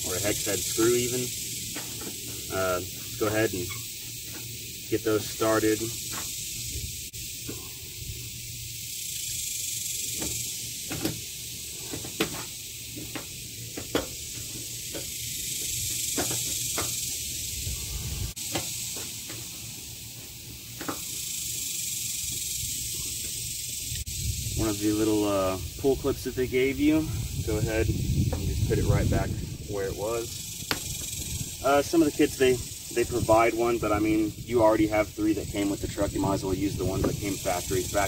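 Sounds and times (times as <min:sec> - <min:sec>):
steady high hiss: 0:00.0 - 0:38.0.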